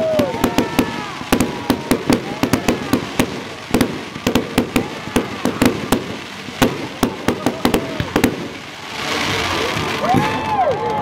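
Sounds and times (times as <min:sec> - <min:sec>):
fireworks bangs and crackles: 0:00.0 - 0:11.0
fireworks falling whistles: 0:00.0 - 0:11.0.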